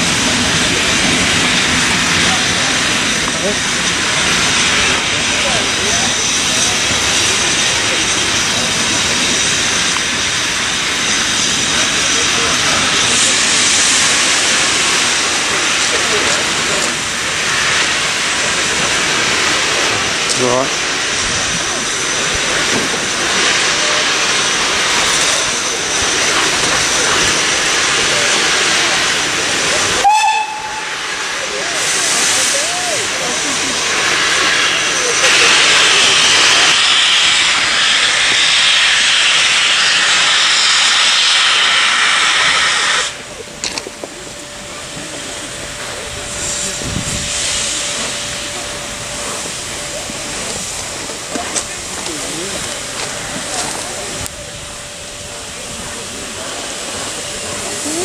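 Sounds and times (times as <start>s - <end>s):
steam hissing: 0.0s - 58.0s.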